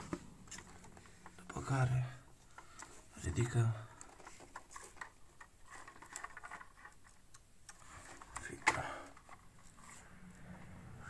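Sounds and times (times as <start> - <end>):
cables rustling: 0.0 - 11.0.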